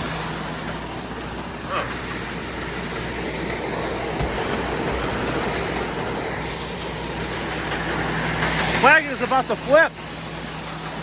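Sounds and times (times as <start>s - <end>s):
corn unloading: 0.0s - 11.0s
grain auger humming: 0.0s - 11.0s.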